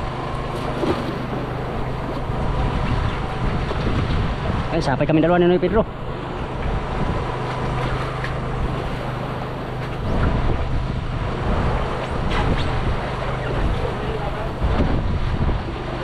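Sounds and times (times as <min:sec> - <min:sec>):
wind on microphone: 0:00.0 - 0:05.1, 0:05.8 - 0:16.0
boat engine hum: 0:00.0 - 0:16.0.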